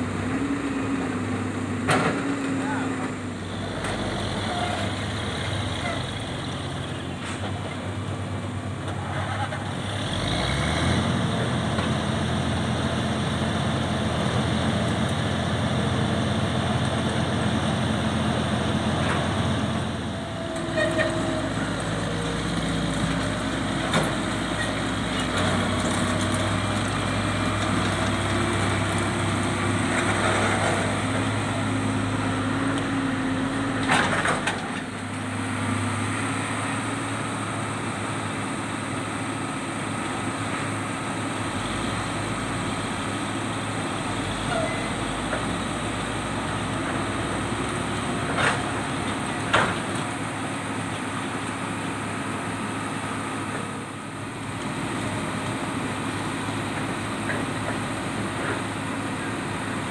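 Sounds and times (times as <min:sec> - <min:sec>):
truck diesel engine pulling away: 0:00.0 - 0:59.9.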